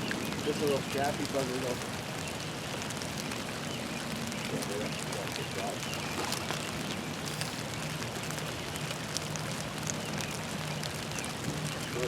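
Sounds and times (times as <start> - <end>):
raindrops ticking: 0.0 - 12.0
steady rain: 0.0 - 12.0.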